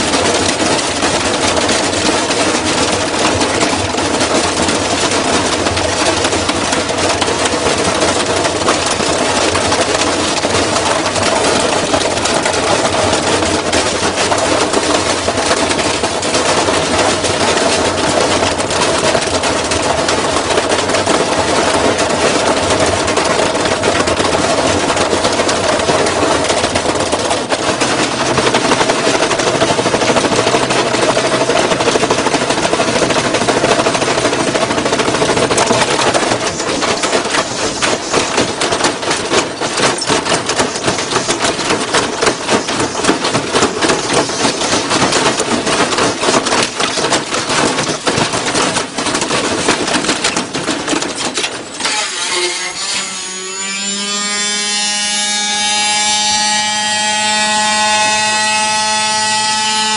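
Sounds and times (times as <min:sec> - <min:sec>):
washing machine clattering and banging: 0:00.0 - 0:52.3
washing machine whine: 0:00.0 - 0:59.9.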